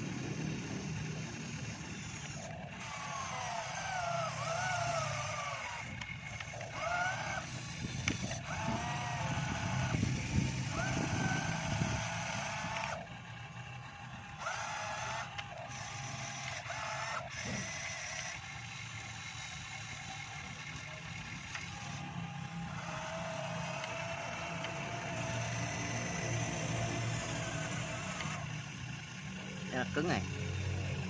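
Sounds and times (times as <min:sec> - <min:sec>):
model excavator motors whining: 0:00.0 - 0:31.0.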